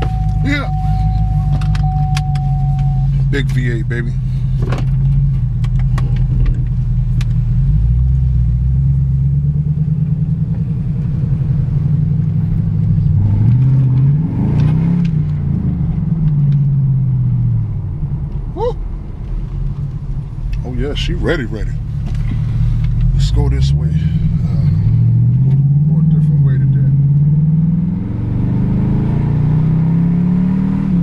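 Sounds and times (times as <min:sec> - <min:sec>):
car engine revving inside cabin: 0:00.0 - 0:18.5, 0:19.6 - 0:31.0.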